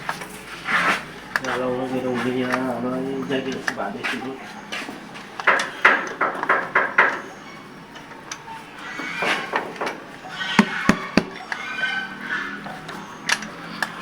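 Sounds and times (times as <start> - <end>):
low voices: 0.0 - 14.0.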